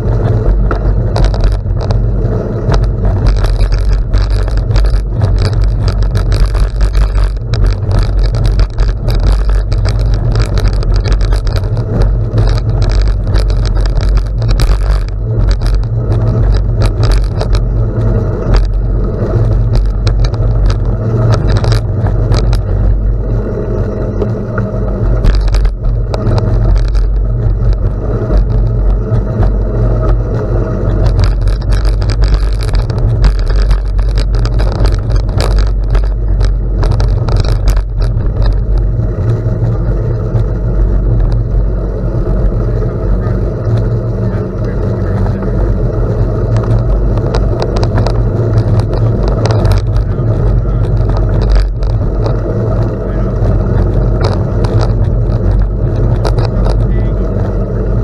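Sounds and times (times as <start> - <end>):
bicycle clicks and rattles: 0.0 - 58.0
tyres crunching on gravel: 0.0 - 58.0
wind over microphone: 0.0 - 58.0.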